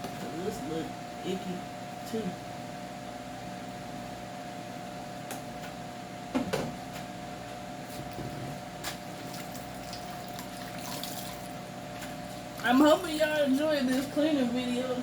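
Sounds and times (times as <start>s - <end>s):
refrigerator hum: 0.0s - 15.0s.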